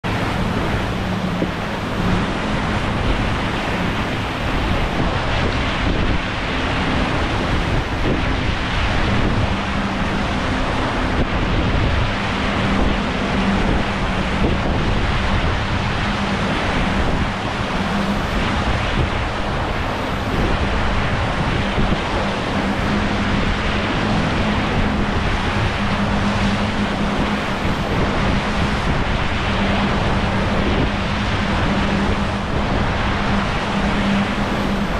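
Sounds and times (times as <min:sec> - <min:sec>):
steady low hum: 0:00.0 - 0:34.9
water rushing along boat hulls: 0:00.0 - 0:34.9
wind buffeting microphone: 0:00.0 - 0:34.9.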